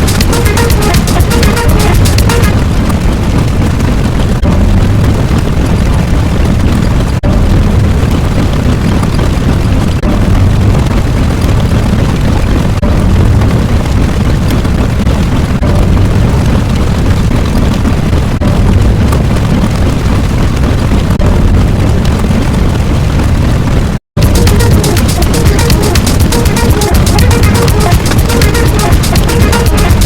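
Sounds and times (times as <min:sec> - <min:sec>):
loud continuous rumbling: 0:00.0 - 0:30.0.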